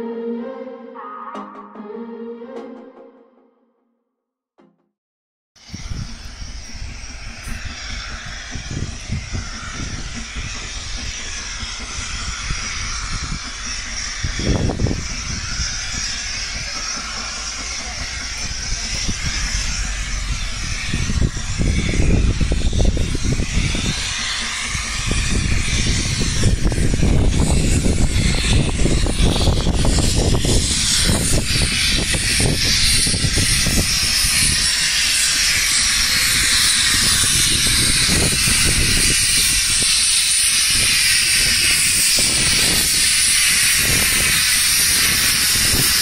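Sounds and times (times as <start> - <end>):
locomotive rumble: 5.6 - 46.0
steam hissing: 5.6 - 46.0.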